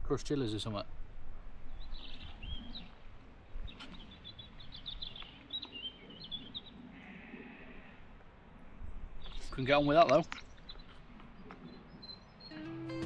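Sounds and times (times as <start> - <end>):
songbirds chirping and trilling: 0.3 - 13.0.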